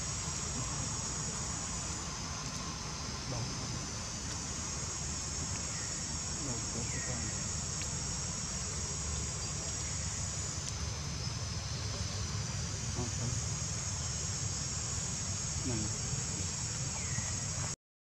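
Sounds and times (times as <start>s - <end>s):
high-pitched insect chorus: 0.0s - 17.8s.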